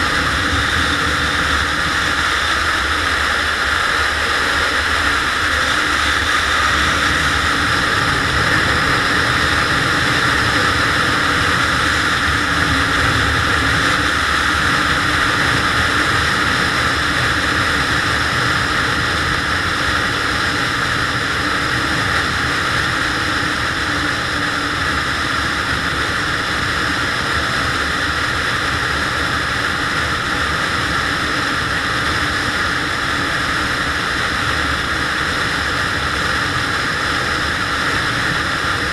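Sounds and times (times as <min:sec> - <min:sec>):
road noise: 0:00.0 - 0:38.9
scooter engine hum: 0:00.0 - 0:38.9
wind on microphone: 0:00.0 - 0:38.9.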